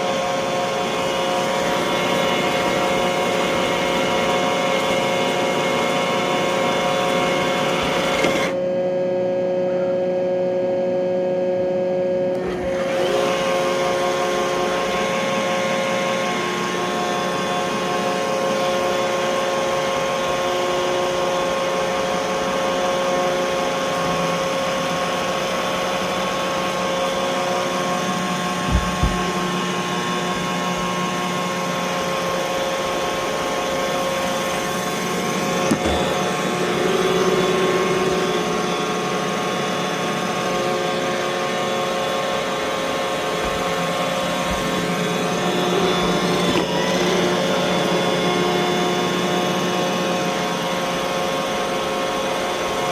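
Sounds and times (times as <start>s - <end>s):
robot vacuum running: 0.0s - 8.7s, 12.2s - 52.9s.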